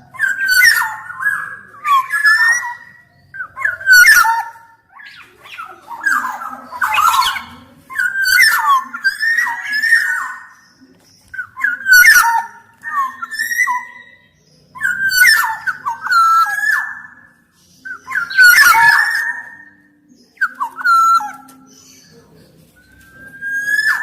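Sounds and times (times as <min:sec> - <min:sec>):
bird singing fluty whistled phrases: 0:00.0 - 0:24.0.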